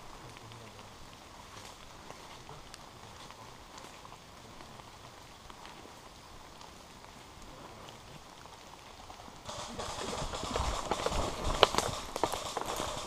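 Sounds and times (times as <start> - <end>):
light rain hissing: 0.0 - 13.0
raindrops ticking: 0.0 - 13.0.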